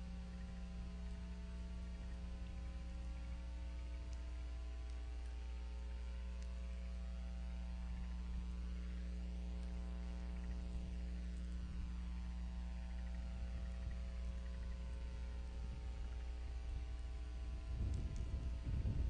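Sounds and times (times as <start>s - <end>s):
electrical mains hum: 0.0s - 19.0s
faint ticks: 0.0s - 19.0s.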